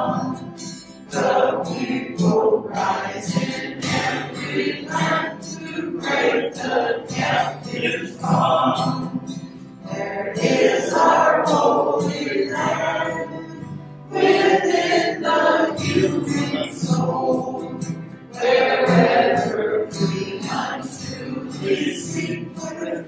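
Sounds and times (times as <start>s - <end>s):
choir singing a hymn: 0.0s - 23.0s.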